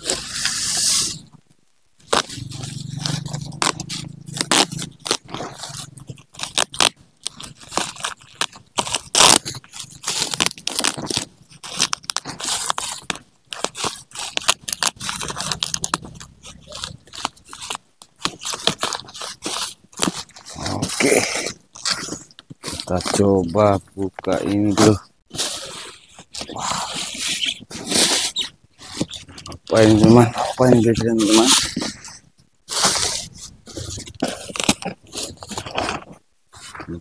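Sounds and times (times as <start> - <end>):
plastic tearing hiss: 0.0 - 1.4, 2.0 - 23.8, 24.4 - 32.1, 32.7 - 37.0
plastic wrapping crinkling: 0.0 - 37.0.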